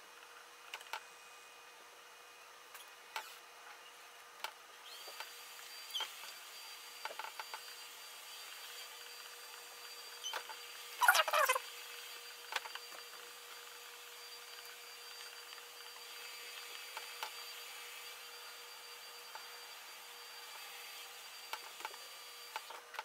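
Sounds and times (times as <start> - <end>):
faint steady whine: 0.0 - 23.0.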